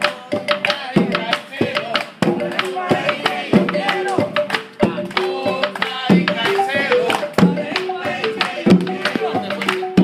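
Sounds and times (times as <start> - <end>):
drums and percussion beat: 0.0 - 10.0
upbeat song with singing: 0.0 - 10.0.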